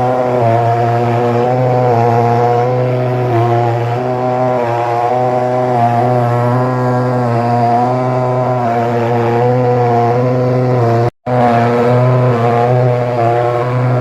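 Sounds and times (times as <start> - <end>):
fogging machine droning: 0.0 - 14.0.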